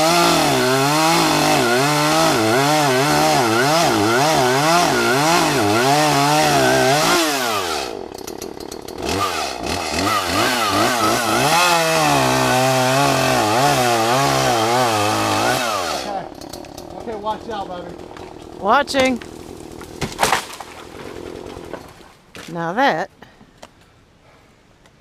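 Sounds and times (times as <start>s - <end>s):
chainsaw cutting into tree: 0.0s - 22.0s.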